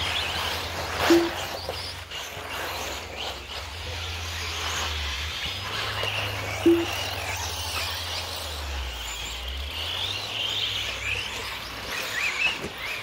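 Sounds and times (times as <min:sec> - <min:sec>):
birds chirping: 0:00.0 - 0:02.6, 0:03.2 - 0:13.0.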